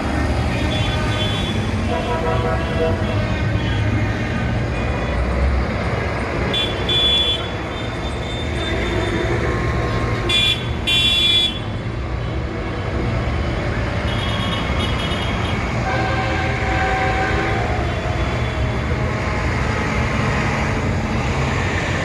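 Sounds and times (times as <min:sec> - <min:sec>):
tractor engines running: 0:00.0 - 0:22.0
horns tooting: 0:00.4 - 0:05.4, 0:06.4 - 0:13.0, 0:13.8 - 0:20.9.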